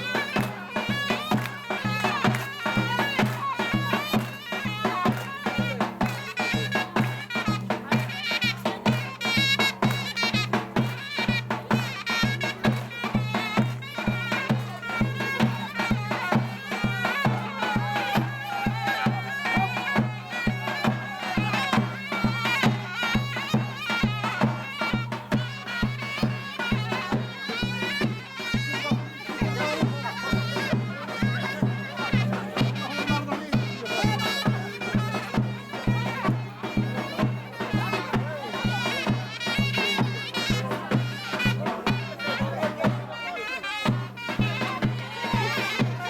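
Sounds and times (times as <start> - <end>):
shrill reed-pipe melody: 0.0 - 46.0
steady drumbeat: 0.0 - 46.0.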